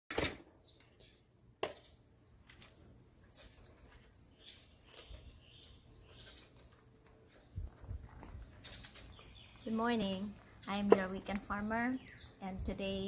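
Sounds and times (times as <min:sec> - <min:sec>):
small birds chirping: 0:00.5 - 0:13.0.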